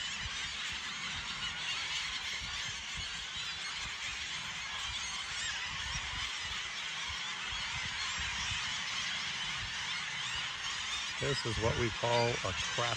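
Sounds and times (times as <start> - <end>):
gulls calling: 0.0 - 12.9.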